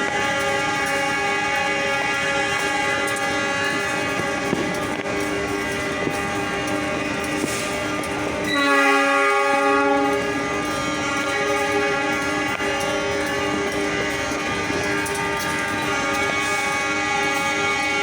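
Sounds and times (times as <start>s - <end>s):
diesel locomotive horns: 0.0s - 18.0s.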